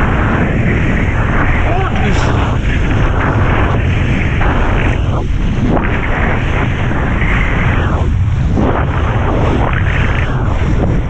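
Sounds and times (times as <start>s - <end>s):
kiteboard skimming water: 0.0s - 11.0s
wind buffeting microphone: 0.0s - 11.0s.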